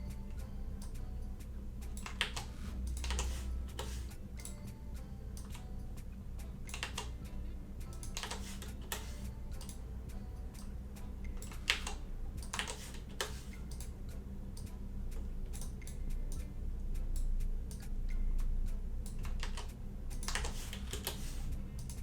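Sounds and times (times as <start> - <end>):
keyboard and mouse clicks: 0.0 - 1.0, 1.8 - 16.5, 17.2 - 18.2, 19.0 - 22.0
steady low hum: 0.0 - 22.0.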